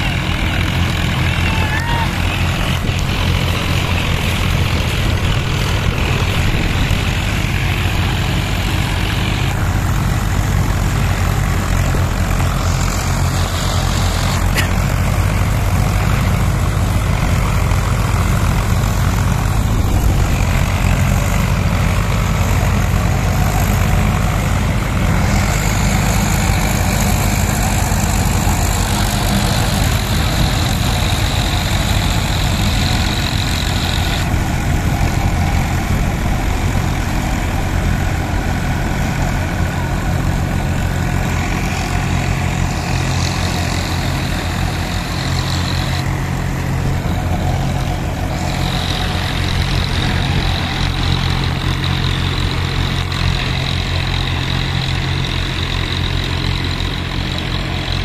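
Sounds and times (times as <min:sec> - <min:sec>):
tractor diesel engines droning: 0:00.0 - 0:58.0.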